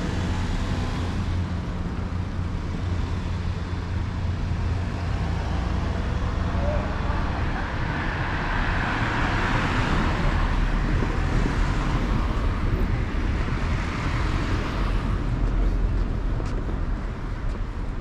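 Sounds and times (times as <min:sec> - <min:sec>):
steady low traffic rumble: 0:00.0 - 0:18.0.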